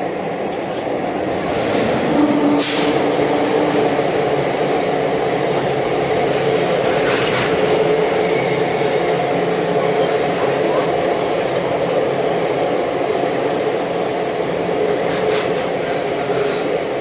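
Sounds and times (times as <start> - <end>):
train wheels and engine rumbling: 0.0 - 17.0.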